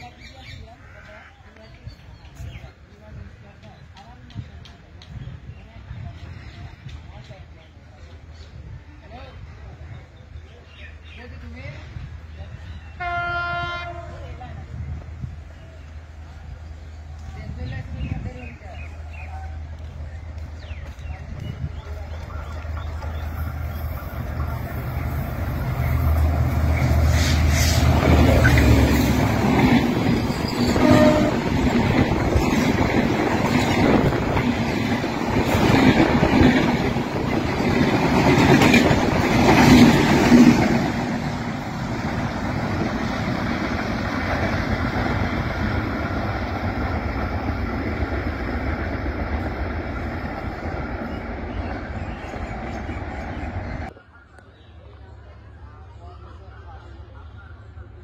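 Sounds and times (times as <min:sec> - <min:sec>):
locomotive engine rumble: 0:00.0 - 0:58.0.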